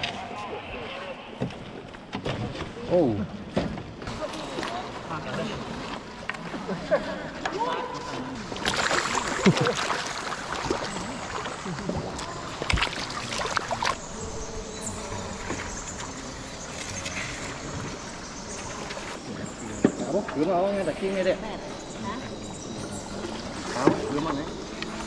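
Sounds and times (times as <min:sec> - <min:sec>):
voices: 0:00.0 - 0:01.8, 0:04.1 - 0:25.0
water splashing and trickling: 0:00.8 - 0:25.0.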